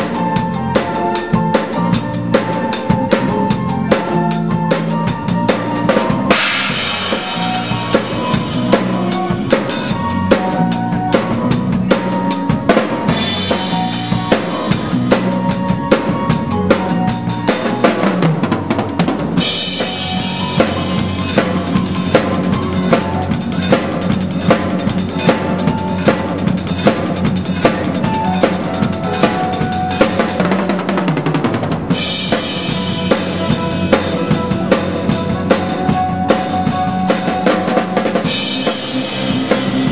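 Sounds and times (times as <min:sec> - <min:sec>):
drum kit fast groove: 0:00.0 - 0:39.9
keyboards playing dance music: 0:00.0 - 0:39.9.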